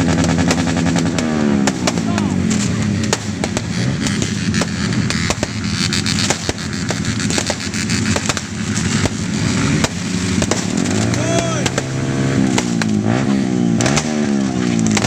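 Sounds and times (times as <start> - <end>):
fireworks bangs and crackles: 0.0 - 15.0
steady low rumble: 0.0 - 15.0.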